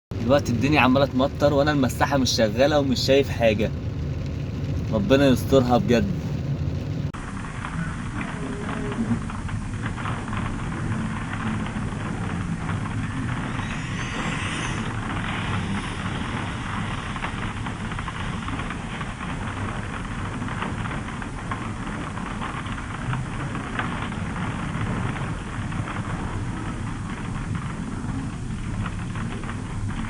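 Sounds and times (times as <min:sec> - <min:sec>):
engine and road rumble: 0:00.0 - 0:30.0
heavy rain on car roof: 0:00.1 - 0:30.0.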